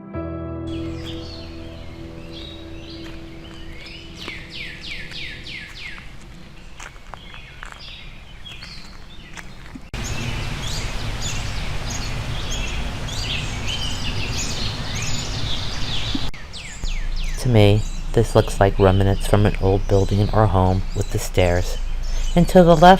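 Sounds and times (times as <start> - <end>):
wild birds chirping: 0.7 - 22.9
outdoor background noise: 0.8 - 22.9.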